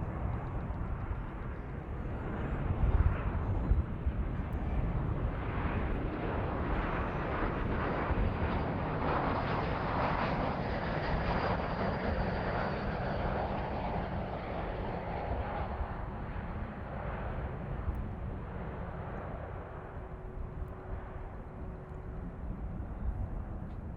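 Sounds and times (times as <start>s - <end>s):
jet airliner passing: 0.0s - 23.9s.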